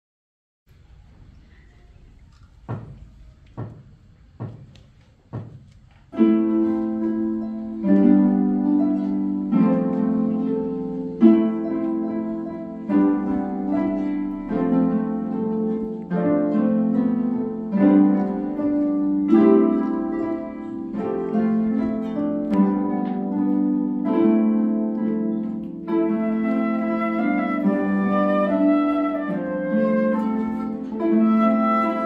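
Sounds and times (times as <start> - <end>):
harps playing chords: 6.2 - 32.0.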